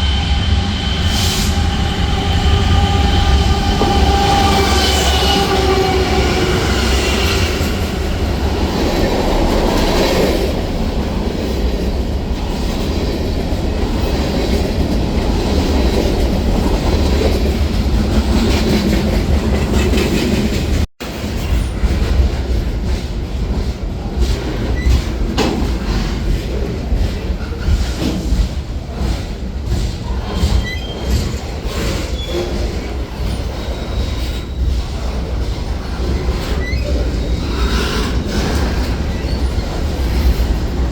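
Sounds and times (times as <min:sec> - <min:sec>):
train passing close by: 0:00.0 - 0:40.9.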